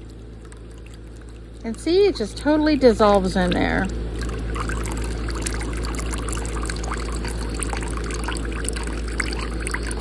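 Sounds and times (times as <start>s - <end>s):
liquid trickling into glass: 0.0s - 10.0s.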